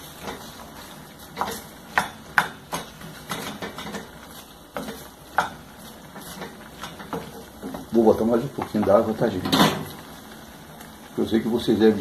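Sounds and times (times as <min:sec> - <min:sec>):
wooden spoon scraping a pan: 0:00.0 - 0:10.0.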